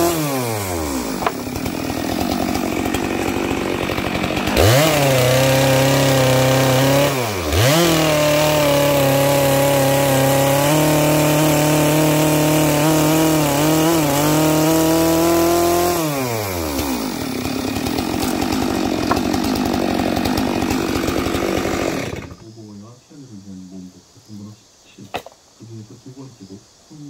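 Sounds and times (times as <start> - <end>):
chainsaw cutting log: 0.0 - 22.5.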